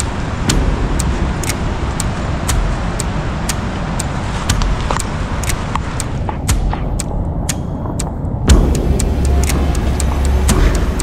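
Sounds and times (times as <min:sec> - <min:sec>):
river and waterfall rushing: 0:00.0 - 0:07.3, 0:08.5 - 0:11.0
short sharp ticks: 0:00.0 - 0:11.0.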